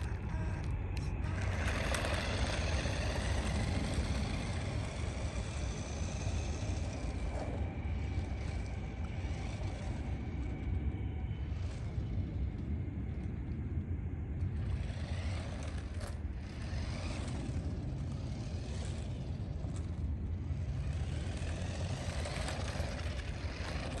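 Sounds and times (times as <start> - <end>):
remote-control car motor whining: 0.0 - 13.6, 14.4 - 24.0
low rumble: 0.0 - 24.0.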